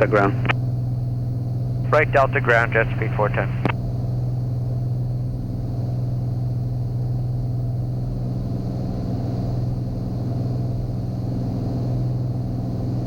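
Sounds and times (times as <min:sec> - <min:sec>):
aircraft engine and propeller droning: 0:00.0 - 0:12.6.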